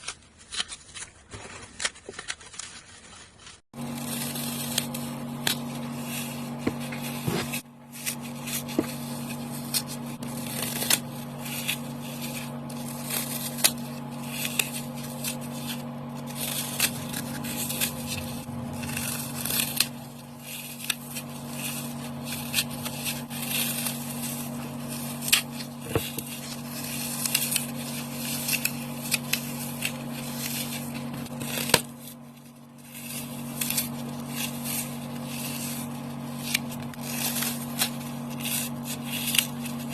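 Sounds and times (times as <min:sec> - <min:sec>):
floral foam crunching: 0:00.5 - 0:39.9.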